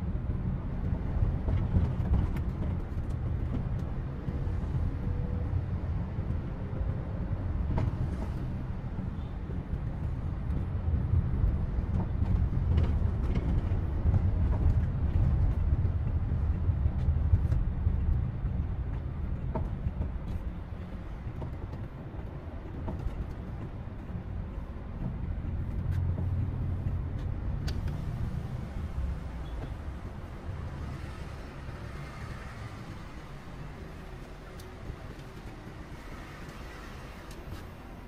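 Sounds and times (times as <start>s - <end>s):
van engine and road rumble: 0.0s - 38.0s.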